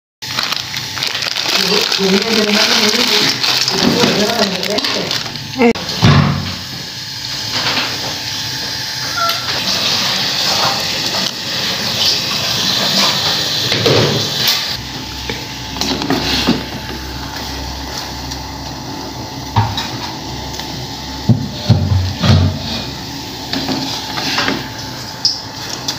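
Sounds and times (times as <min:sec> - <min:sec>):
water boiling in a pot: 0:00.2 - 0:25.9.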